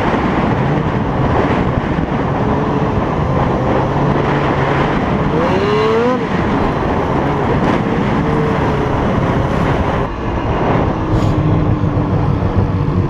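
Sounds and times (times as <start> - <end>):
snowmobile engine running: 0.0 - 13.0
wind rushing over microphone: 0.0 - 13.0.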